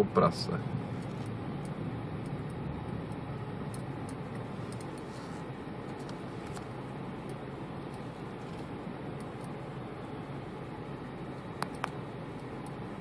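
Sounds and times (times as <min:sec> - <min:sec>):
car driving low rumble: 0:00.0 - 0:13.0.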